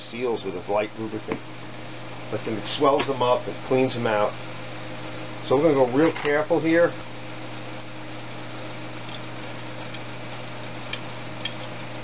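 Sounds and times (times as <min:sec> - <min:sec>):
low hum of room equipment: 0:00.0 - 0:12.0.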